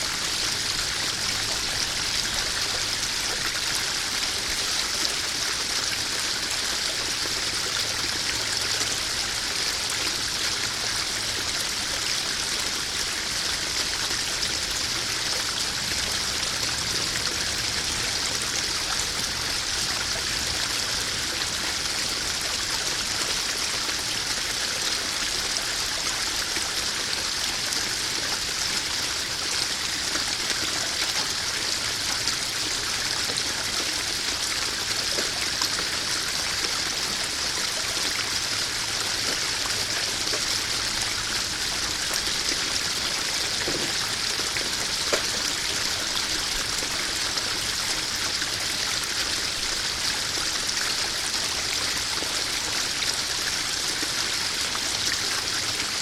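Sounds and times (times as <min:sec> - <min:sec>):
pond waterfall splashing: 0:00.0 - 0:56.0.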